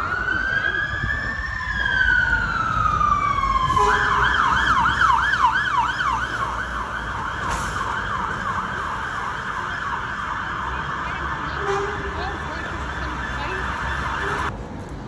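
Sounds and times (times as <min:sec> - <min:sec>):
fire engine siren yelping: 0:00.0 - 0:14.5
low road traffic rumble: 0:00.0 - 0:15.0.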